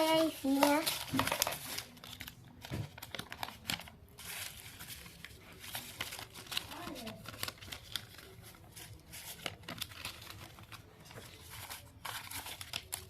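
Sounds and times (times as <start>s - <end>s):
banknotes rustling and crinkling: 0.0s - 13.0s.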